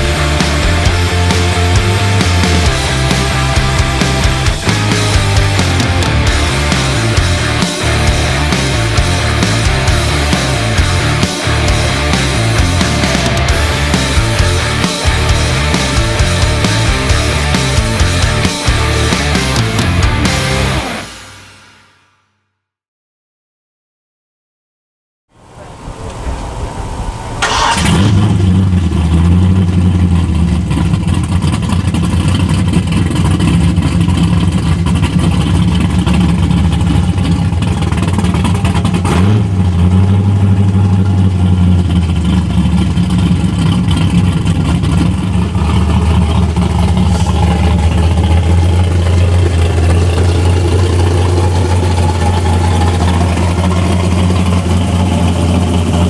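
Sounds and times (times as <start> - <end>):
car engine cranking: 0.0 - 21.3, 25.4 - 56.0
car engine idling loudly: 0.0 - 21.4, 25.4 - 56.0.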